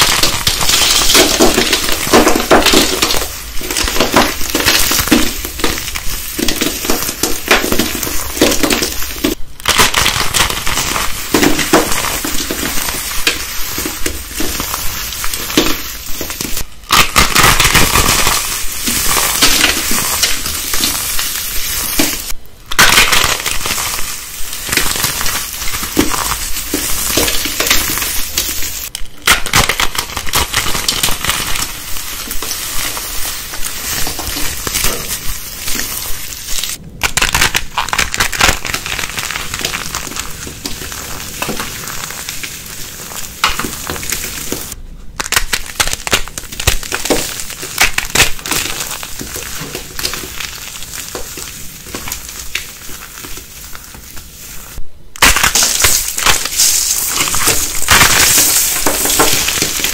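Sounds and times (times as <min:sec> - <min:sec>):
soap pieces crunching in hands: 0:00.0 - 0:59.9.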